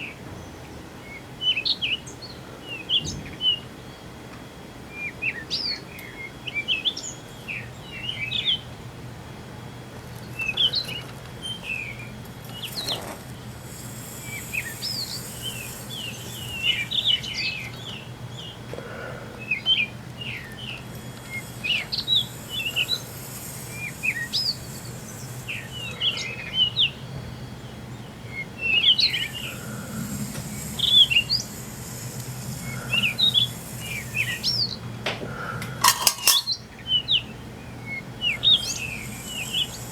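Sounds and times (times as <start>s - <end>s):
small birds chirping: 0.0s - 4.2s, 4.8s - 39.9s
steady low hum: 0.0s - 39.9s.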